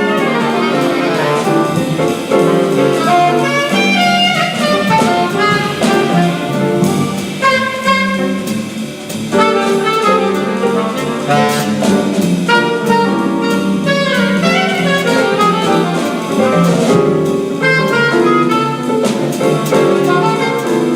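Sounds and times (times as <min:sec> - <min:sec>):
drum kit with cymbals: 0:00.0 - 0:20.9
piano: 0:00.0 - 0:20.9
saxophone melody: 0:00.0 - 0:20.9.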